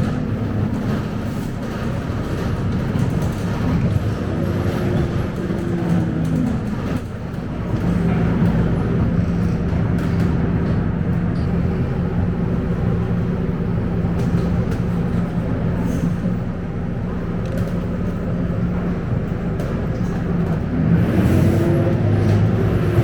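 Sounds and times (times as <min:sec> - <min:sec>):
bus diesel engine: 0:00.0 - 0:23.0
road noise: 0:00.0 - 0:23.0.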